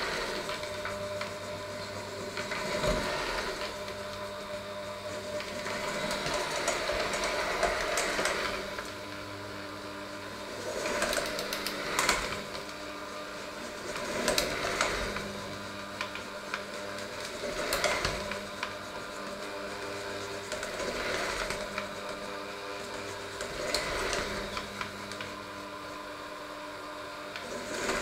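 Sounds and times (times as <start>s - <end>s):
electric hand mixer kneading dough: 0.0s - 28.0s.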